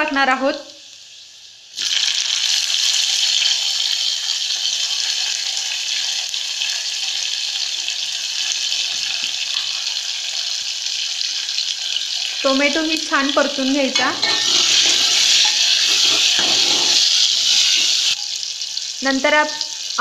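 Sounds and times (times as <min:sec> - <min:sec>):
tomatoes sizzling in hot oil: 0:00.0 - 0:20.0.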